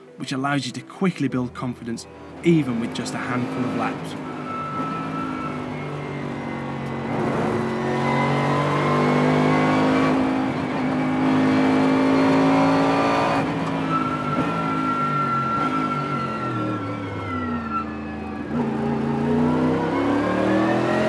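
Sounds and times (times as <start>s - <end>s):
racing engine accelerating: 2.1s - 21.0s.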